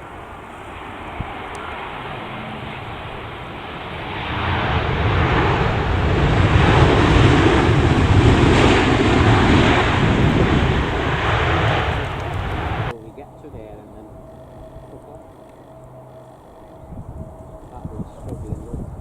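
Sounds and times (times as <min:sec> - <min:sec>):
jet airliner passing: 0:00.0 - 0:19.0
wind buffeting microphone: 0:00.0 - 0:19.0.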